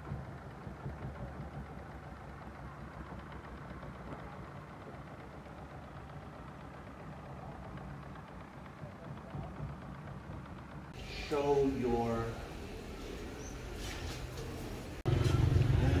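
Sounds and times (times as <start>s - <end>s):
boat engine idling: 0.0s - 13.8s.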